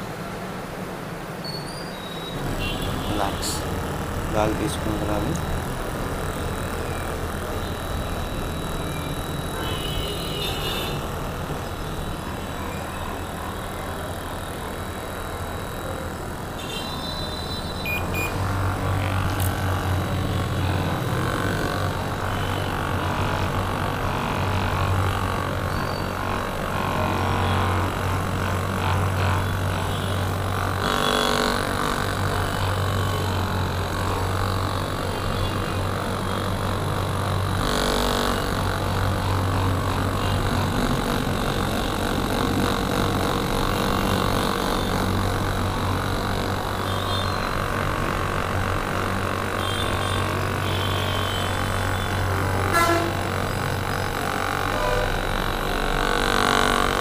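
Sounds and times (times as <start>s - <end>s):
massage gun buzzing: 1.9s - 57.0s.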